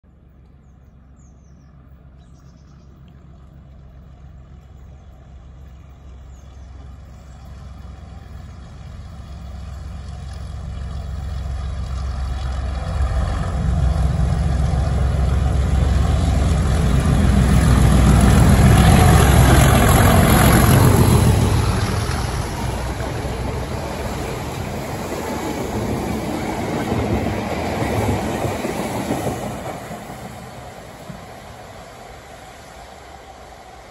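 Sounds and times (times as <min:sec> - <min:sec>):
train wheel and rail noise: 0:00.1 - 0:33.9.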